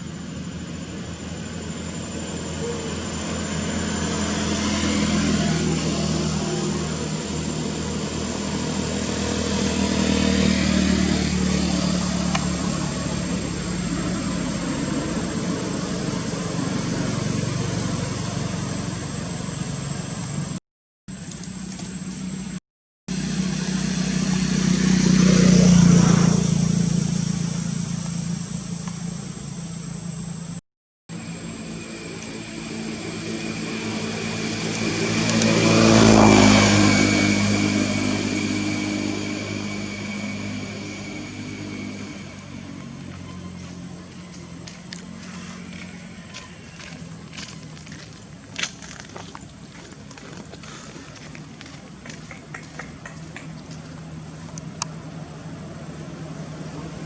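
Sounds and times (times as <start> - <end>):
vehicle engines passing by: 0.0 - 57.0.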